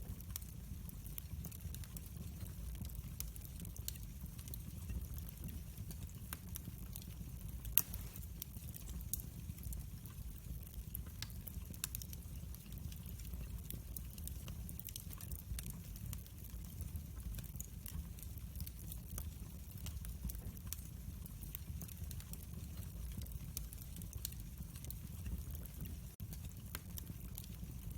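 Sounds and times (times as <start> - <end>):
fire crackles and pops: 0.0 - 27.9
low rumble of flame: 0.0 - 27.9.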